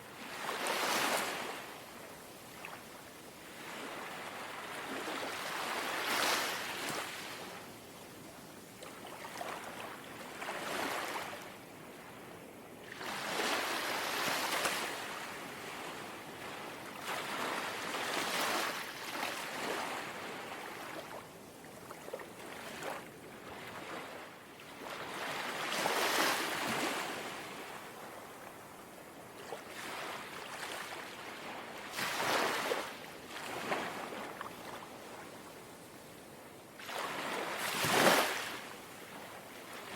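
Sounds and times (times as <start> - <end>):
gentle sea waves lapping: 0.2 - 7.6, 8.3 - 35.6, 36.8 - 39.9.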